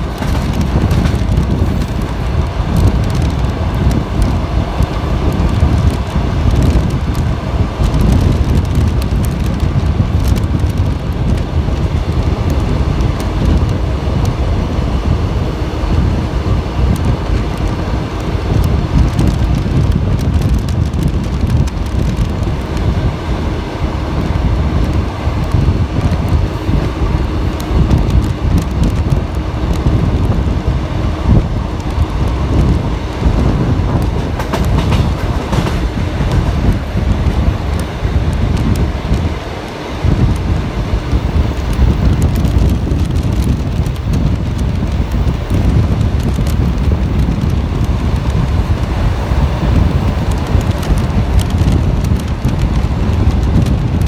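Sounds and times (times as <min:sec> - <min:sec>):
train wheels rumbling on rails: 0:00.0 - 0:54.0
wind buffeting microphone: 0:00.0 - 0:54.0.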